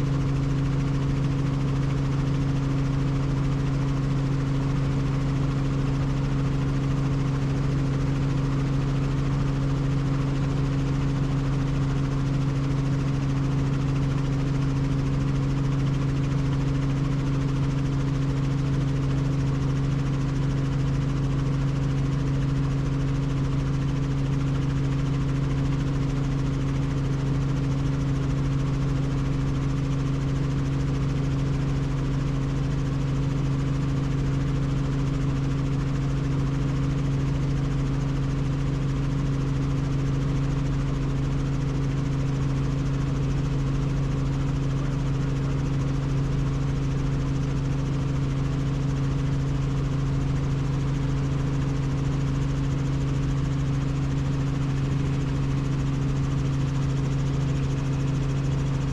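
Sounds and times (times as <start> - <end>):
helicopter engine and rotors: 0.0 - 58.9.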